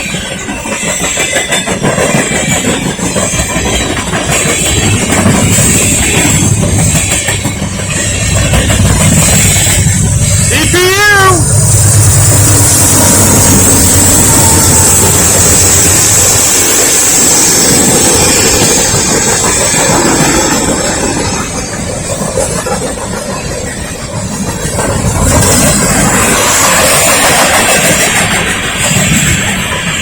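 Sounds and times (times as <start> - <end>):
freight cars rumbling and rattling: 0.0 - 30.0.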